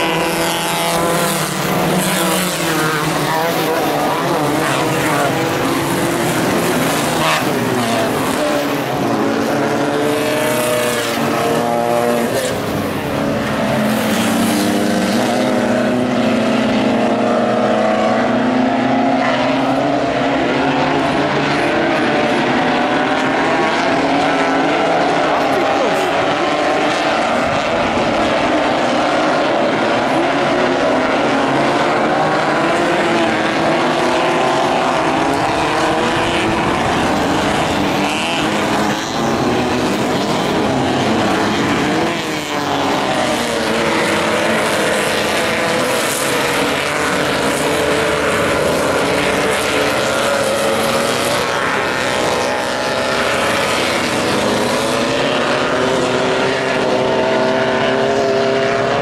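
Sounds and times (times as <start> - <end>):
race buggy engines running hard: 0.0 - 59.0.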